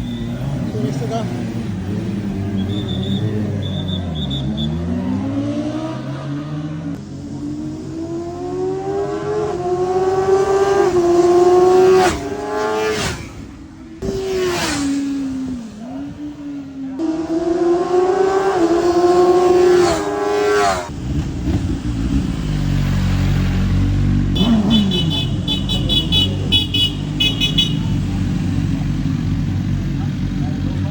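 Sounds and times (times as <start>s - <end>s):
engine rumbling: 0.0s - 30.9s
motorcycle engine revving: 0.0s - 30.9s.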